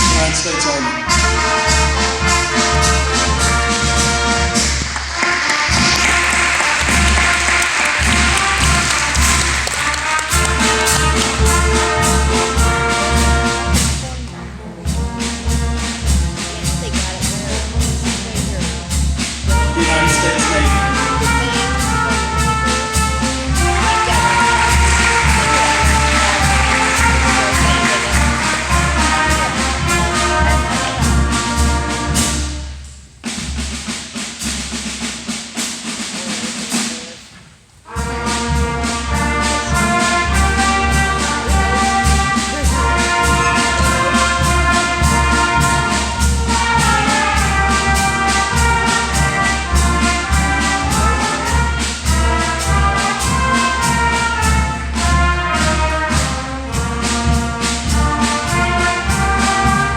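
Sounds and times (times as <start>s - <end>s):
military brass band playing: 0.0s - 59.9s.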